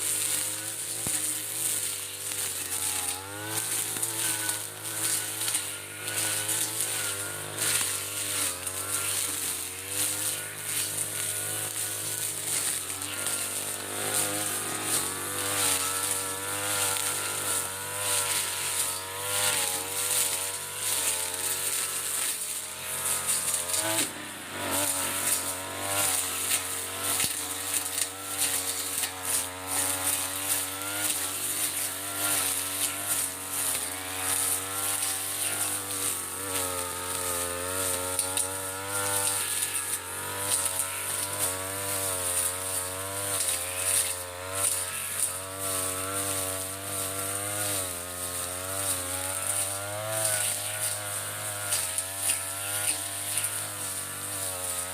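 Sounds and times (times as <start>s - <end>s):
brush cutter engine cutting grass: 0.0s - 54.9s.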